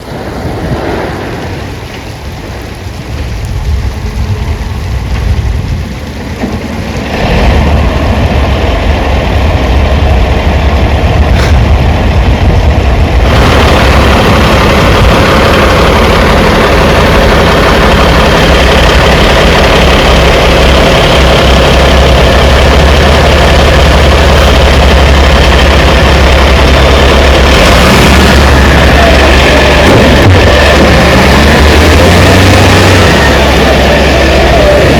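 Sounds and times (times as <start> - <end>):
heavy machinery engine rumbling: 0.0 - 34.9.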